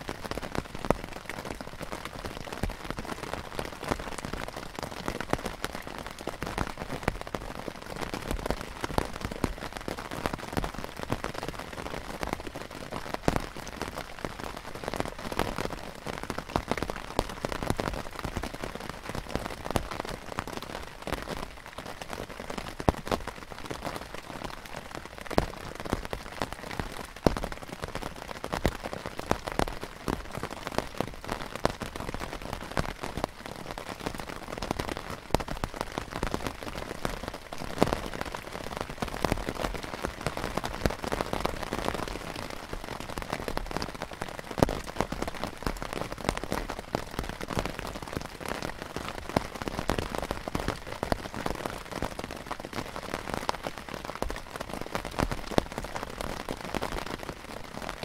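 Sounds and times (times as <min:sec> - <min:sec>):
rain pattering on canvas: 0:00.0 - 0:58.0.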